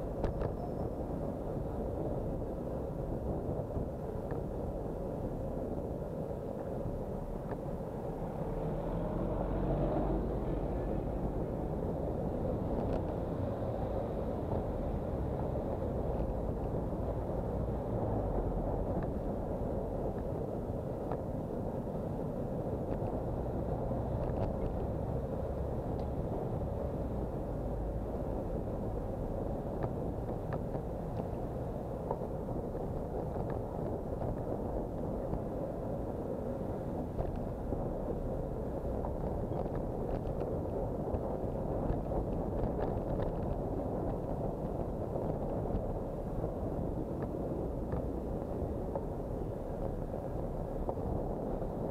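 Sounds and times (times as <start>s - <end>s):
muffled wind and road noise: 0.0s - 51.9s.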